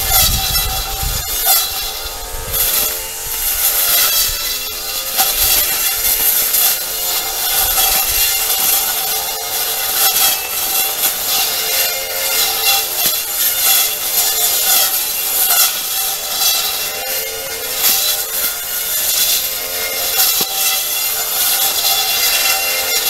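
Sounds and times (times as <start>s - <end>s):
brush cutter cutting grass: 0.0s - 23.0s.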